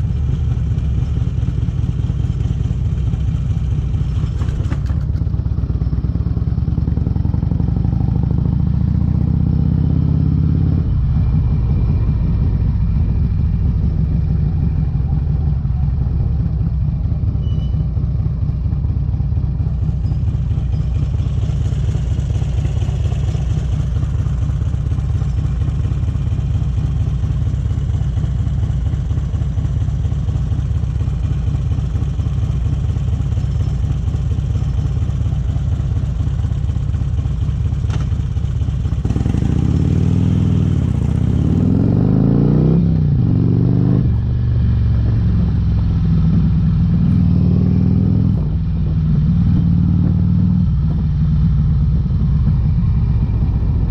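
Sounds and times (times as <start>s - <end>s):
motorcycle exhaust accelerating: 0.0s - 53.9s.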